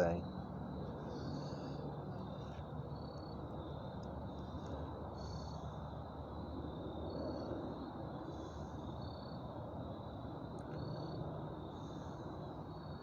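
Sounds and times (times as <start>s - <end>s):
insects trilling: 0.0s - 13.0s
short insect calls: 0.0s - 13.0s.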